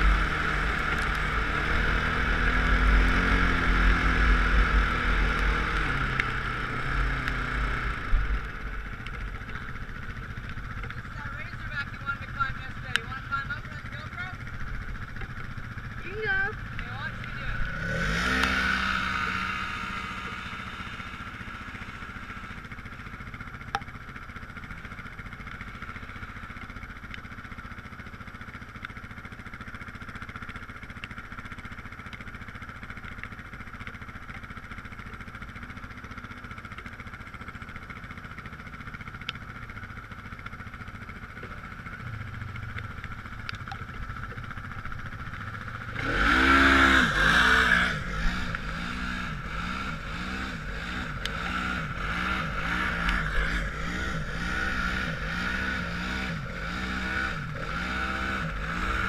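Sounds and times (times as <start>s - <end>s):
off-road vehicle engine droning: 0.0s - 59.0s
side-by-side engine revving: 0.0s - 59.0s.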